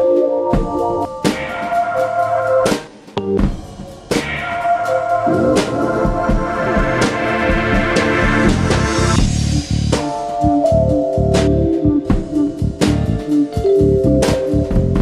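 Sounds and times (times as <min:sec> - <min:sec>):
music with drums and organ chords: 0:00.0 - 0:15.0.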